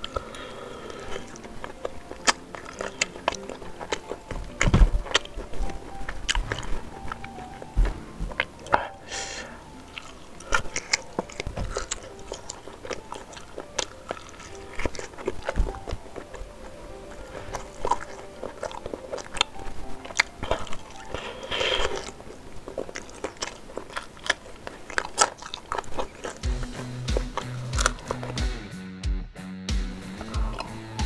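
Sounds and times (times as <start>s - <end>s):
mouth biting and chewing: 0.0s - 28.5s, 30.1s - 31.0s.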